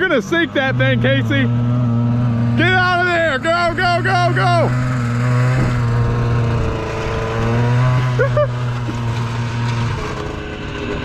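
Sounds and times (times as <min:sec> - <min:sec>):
snowmobile two-stroke engine running: 0:00.0 - 0:11.0.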